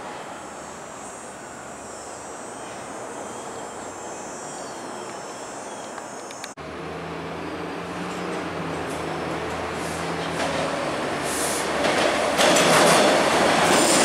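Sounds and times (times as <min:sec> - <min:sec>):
subway train rumbling on track: 0:00.0 - 0:14.0.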